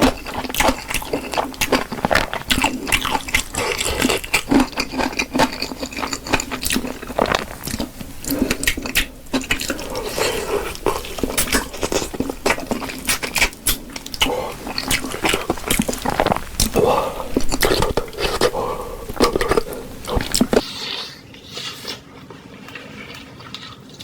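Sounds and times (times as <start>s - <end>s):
mouth clicks: 0.0s - 20.6s
wet squishy chewing: 0.0s - 24.0s.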